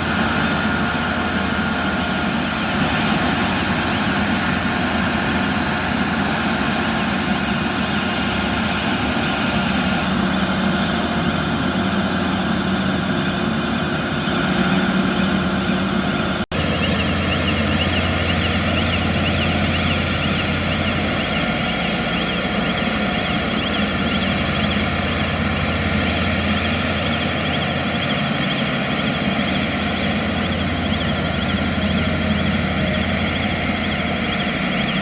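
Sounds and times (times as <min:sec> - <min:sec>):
heavy engine humming: 0:00.0 - 0:35.0
high warbling warning alarm: 0:00.0 - 0:35.0.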